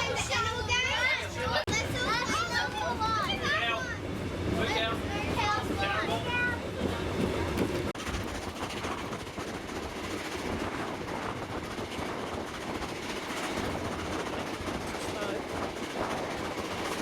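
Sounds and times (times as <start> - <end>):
train running on rails: 0.0 - 17.0.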